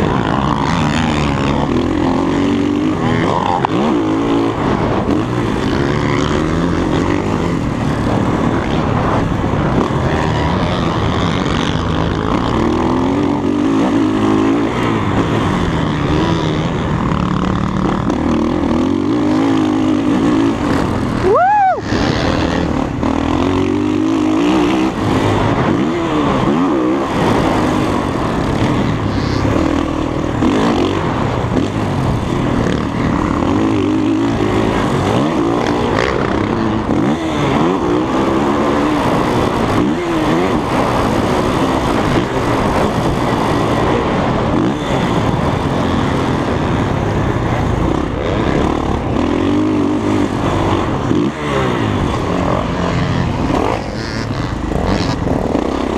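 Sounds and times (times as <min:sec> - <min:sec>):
dirt bike engine revving: 0:00.0 - 0:55.9
steady rush of noise: 0:00.0 - 0:55.9.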